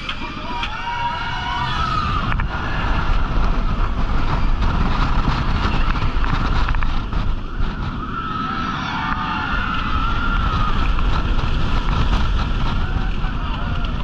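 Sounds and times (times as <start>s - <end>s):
roller coaster rumbling on track: 0.0s - 14.0s
wind on microphone: 0.0s - 14.0s.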